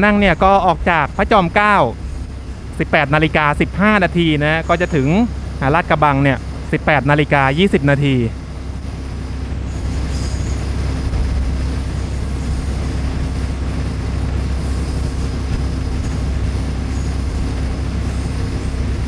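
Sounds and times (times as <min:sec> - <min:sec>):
low hum: 0:00.0 - 0:19.0
train engine and wheel rumble: 0:00.0 - 0:19.0.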